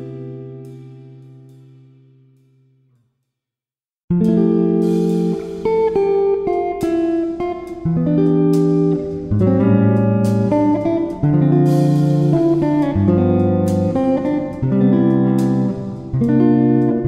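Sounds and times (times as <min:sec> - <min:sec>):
plucked string instrumental music: 0:00.0 - 0:02.4, 0:04.1 - 0:17.0.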